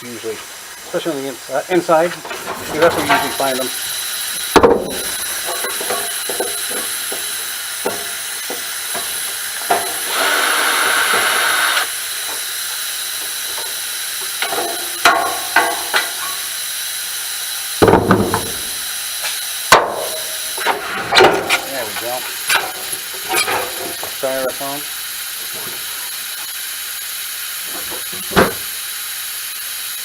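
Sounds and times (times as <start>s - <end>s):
rushing hiss: 0.0s - 30.0s
steady hiss: 0.0s - 30.0s.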